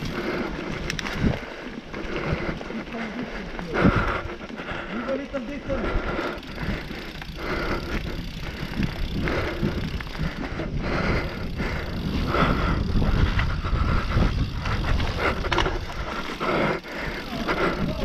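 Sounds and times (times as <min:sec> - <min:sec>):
wind rumbling on microphone: 0:00.0 - 0:04.9, 0:05.8 - 0:18.0
bike rattling and clattering: 0:00.0 - 0:18.0
bike tyre noise on dirt: 0:00.0 - 0:18.0.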